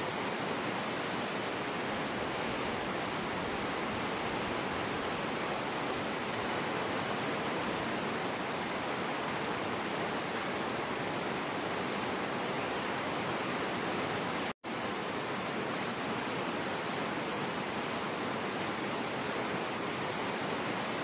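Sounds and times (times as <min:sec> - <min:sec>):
river rapids rushing over rocks: 0:00.0 - 0:21.0.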